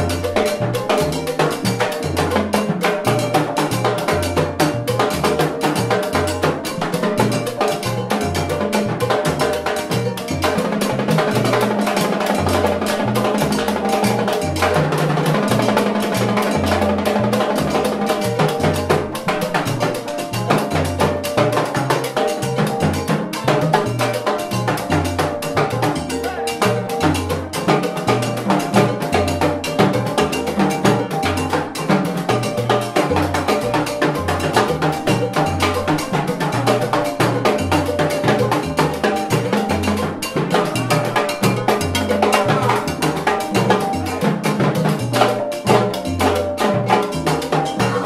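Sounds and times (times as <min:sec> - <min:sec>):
cowbell hits: 0:00.0 - 0:48.0
low bass line: 0:00.0 - 0:48.0
salsa band playing: 0:00.0 - 0:48.0
timbales struck with sticks: 0:00.0 - 0:48.0.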